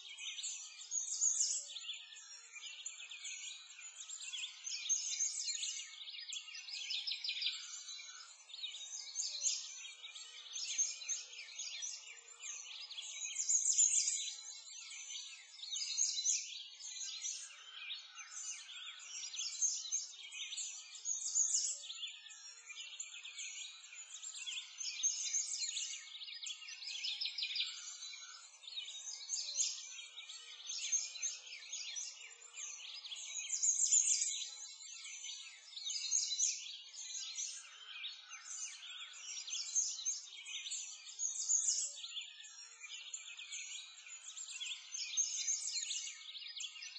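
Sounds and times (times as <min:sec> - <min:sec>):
many small birds chirping: 0:00.0 - 0:46.9.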